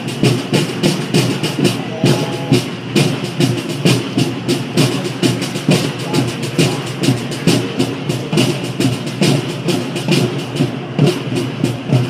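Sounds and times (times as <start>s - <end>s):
drums beating marching rhythm: 0.0s - 12.0s.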